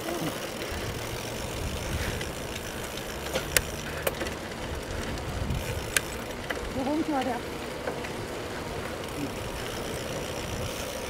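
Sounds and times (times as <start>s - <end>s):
bicycle clicks: 0.0s - 11.0s
bicycle tyres rolling on asphalt: 0.0s - 11.0s
wind rumble: 0.5s - 11.0s.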